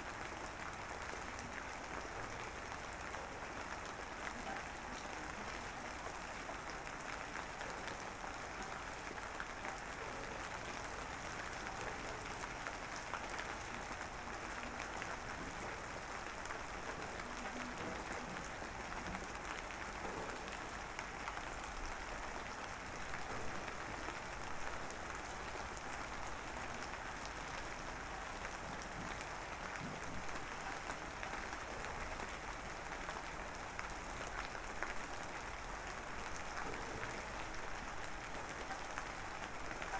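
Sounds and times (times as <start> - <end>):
light drizzle pattering: 0.1 - 39.9.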